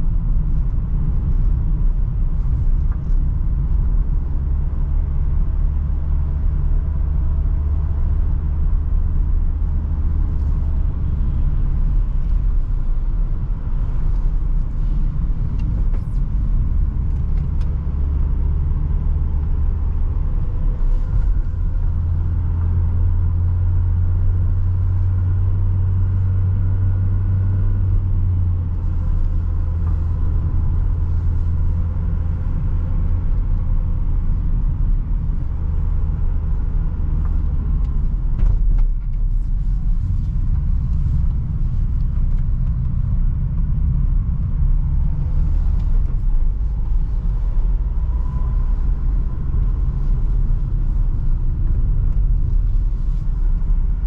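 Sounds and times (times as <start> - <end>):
road rumble: 0.0 - 54.0
van engine hum: 0.0 - 54.0.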